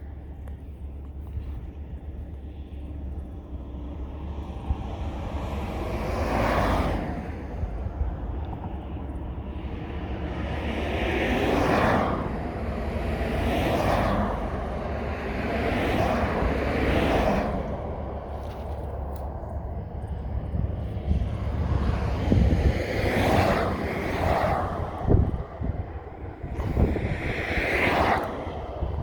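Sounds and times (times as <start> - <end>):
vehicles passing by: 0.0 - 29.0
wind rumble on microphone: 0.0 - 29.0.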